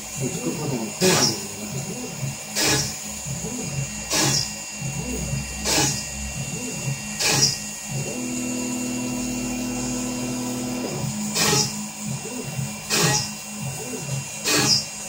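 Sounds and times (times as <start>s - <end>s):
spindle whine: 0.0s - 15.0s
stepper motor tone: 0.0s - 15.0s.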